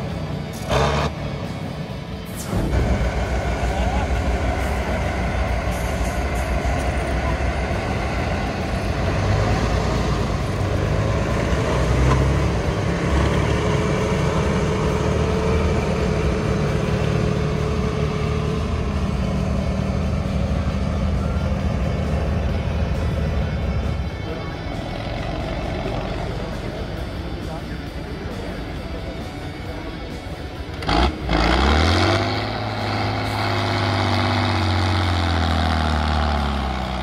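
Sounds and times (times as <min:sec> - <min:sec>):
truck diesel engine under load: 0:00.0 - 0:37.0.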